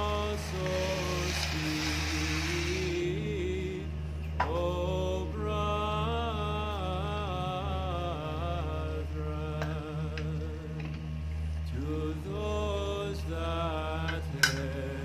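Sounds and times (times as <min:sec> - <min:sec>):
chant-like vocal melody: 0:00.0 - 0:15.0
low drone: 0:00.0 - 0:15.0.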